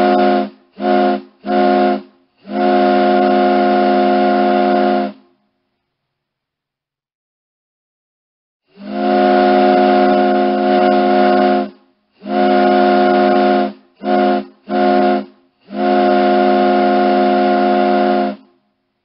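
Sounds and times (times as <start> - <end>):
ship's horn blasts: 0.0 - 5.4, 8.7 - 18.6.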